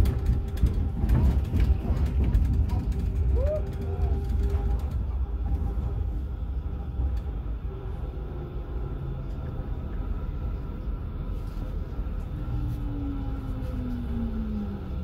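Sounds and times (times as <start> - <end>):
tram wheels rumbling on track: 0.0 - 15.0
tram whine: 0.0 - 15.0.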